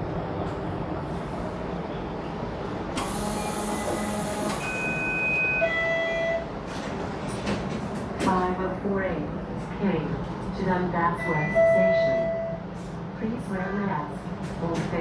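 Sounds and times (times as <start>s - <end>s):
streetcar rumble: 0.0s - 15.0s.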